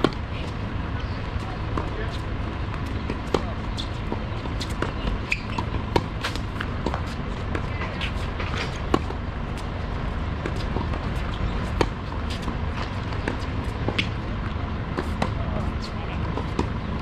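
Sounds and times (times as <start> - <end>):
tennis ball bouncing: 0.0 - 0.5, 1.4 - 17.0
steady low rumble: 0.0 - 17.0.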